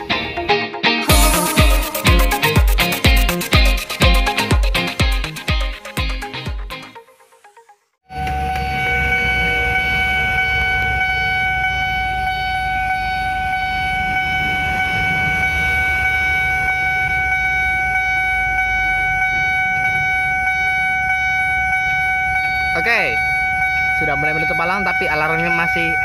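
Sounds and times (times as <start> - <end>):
level crossing warning tone: 1.1 - 4.9, 8.1 - 26.0.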